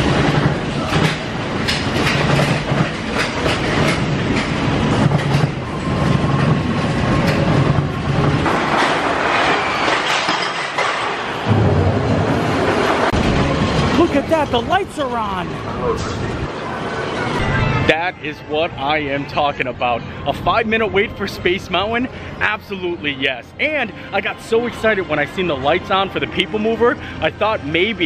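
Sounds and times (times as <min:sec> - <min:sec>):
roller coaster rattling on track: 0:00.0 - 0:23.8.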